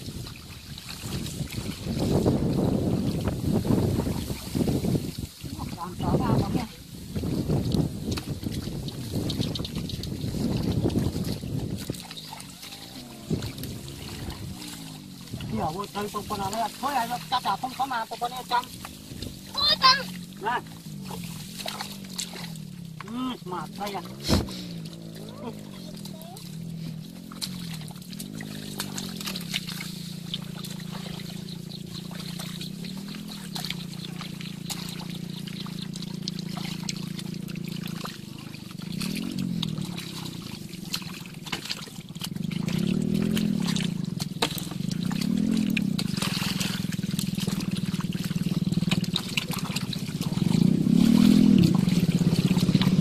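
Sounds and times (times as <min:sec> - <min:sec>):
low motor hum: 0:00.0 - 0:53.0
muddy water trickling and splashing: 0:00.0 - 0:53.0.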